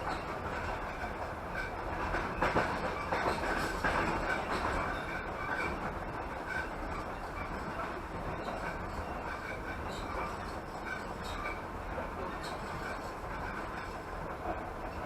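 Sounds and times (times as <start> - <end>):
train clattering: 0.0 - 15.0
train wheels rumbling on rails: 0.0 - 15.0.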